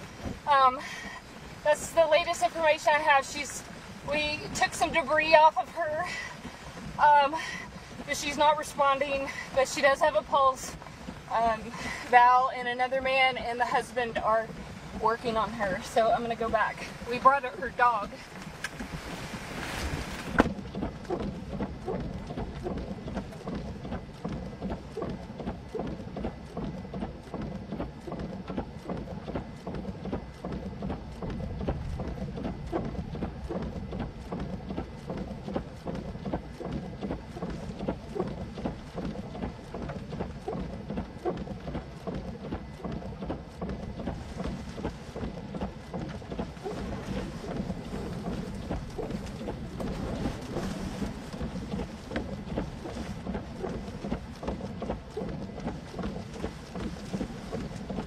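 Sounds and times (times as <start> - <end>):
rain pattering: 0.0 - 58.0
wind buffeting microphone: 0.0 - 58.0.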